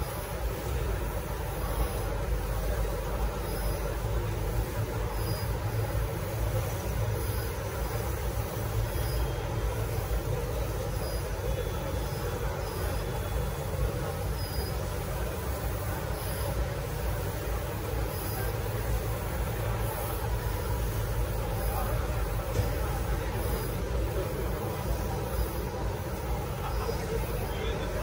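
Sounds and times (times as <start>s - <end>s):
printer running hum: 0.0s - 28.0s.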